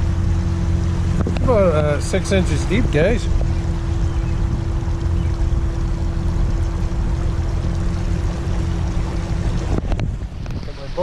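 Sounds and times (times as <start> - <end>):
faint steady hum: 0.0 - 11.0
truck engine low rumble: 0.0 - 11.0
water sloshing around tyres: 0.0 - 11.0.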